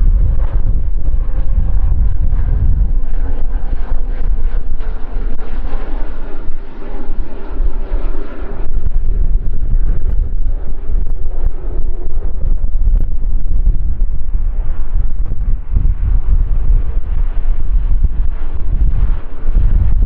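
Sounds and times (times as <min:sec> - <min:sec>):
airplane engine drone: 0:00.0 - 0:20.0
wind rumble on microphone: 0:00.0 - 0:20.0.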